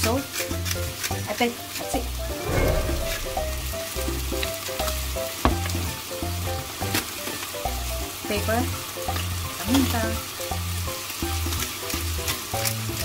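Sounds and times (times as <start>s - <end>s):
onion sizzling in a frying pan: 0.0s - 2.3s, 4.1s - 13.0s.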